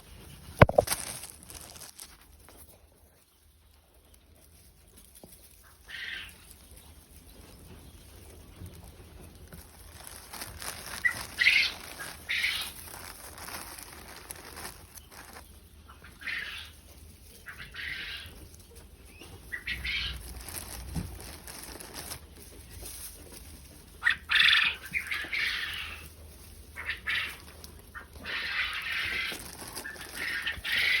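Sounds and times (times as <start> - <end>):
quail scuffling: 0.0 - 31.0.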